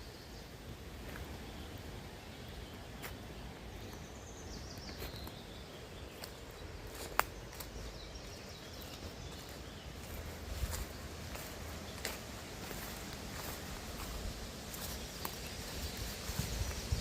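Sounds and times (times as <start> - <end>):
forest ambience: 0.0 - 17.0.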